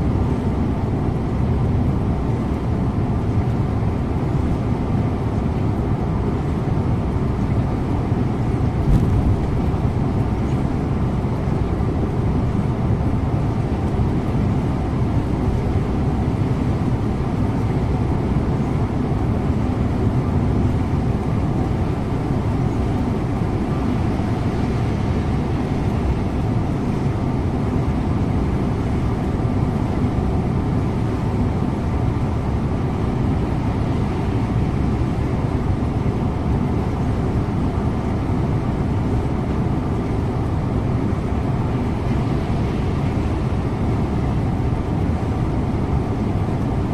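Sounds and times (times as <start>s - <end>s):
coach engine drone: 0.0s - 46.9s.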